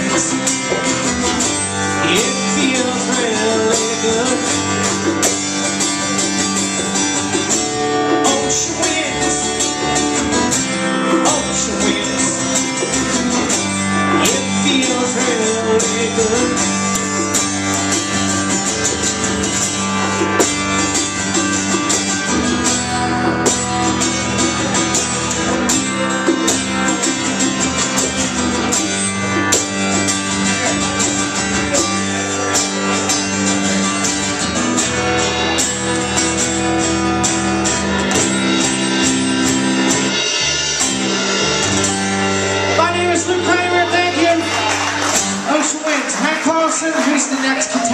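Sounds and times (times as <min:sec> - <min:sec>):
hand drums beat: 0:00.0 - 0:40.2
strummed acoustic guitar: 0:00.0 - 0:47.9
upright bass: 0:00.0 - 0:47.9.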